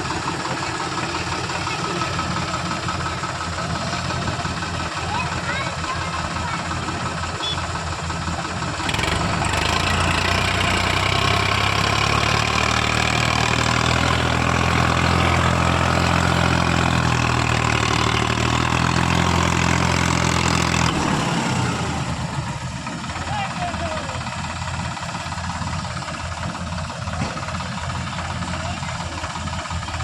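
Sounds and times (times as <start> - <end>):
tractor diesel engine revving: 0.0 - 30.0.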